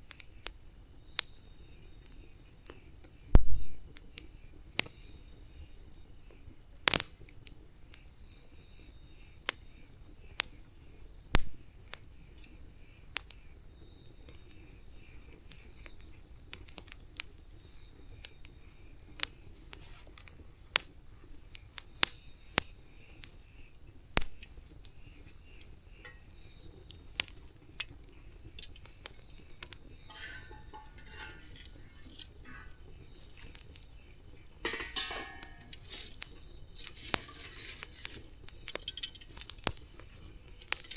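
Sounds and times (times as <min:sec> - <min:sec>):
campfire crackling and popping: 0:00.0 - 0:40.9
hiss of burning: 0:00.0 - 0:40.9.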